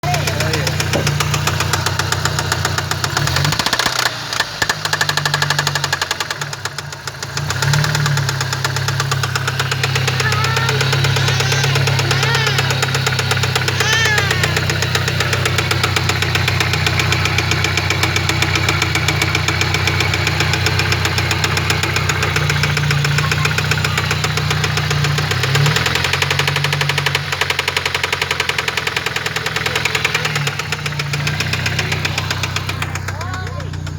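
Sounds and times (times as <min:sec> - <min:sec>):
car engine running: 0:00.0 - 0:33.9
engine ticking knock: 0:00.0 - 0:33.9.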